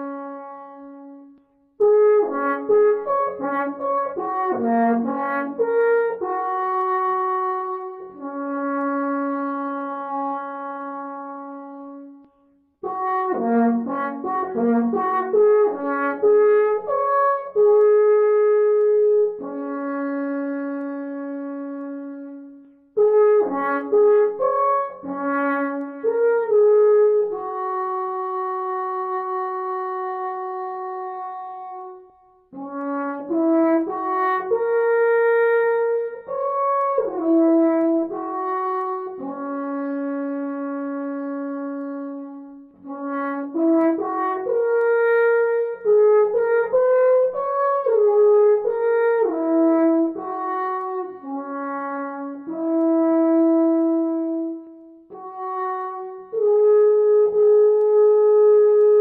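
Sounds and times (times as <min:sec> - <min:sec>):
horn playing ornamented phrases: 0:00.0 - 0:59.0.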